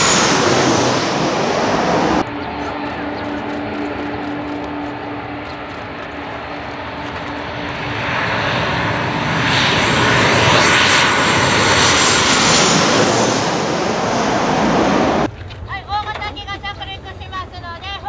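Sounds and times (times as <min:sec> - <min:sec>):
high engine whine: 0:00.0 - 0:15.4
jet airliner passing overhead: 0:00.0 - 0:15.6.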